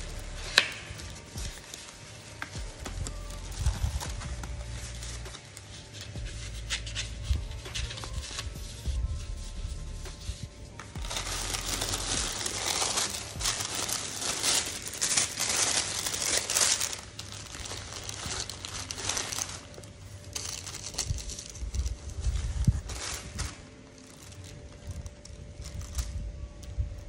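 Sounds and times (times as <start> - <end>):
packaging crinkling: 0.0 - 8.9, 10.2 - 27.0.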